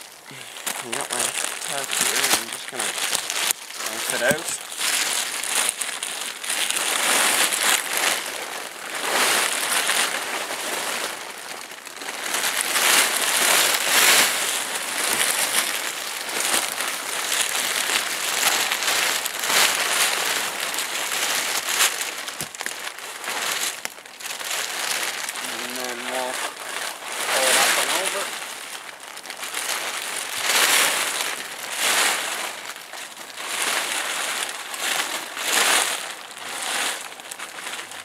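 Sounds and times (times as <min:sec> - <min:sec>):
plastic tarp crinkling: 0:00.0 - 0:38.0.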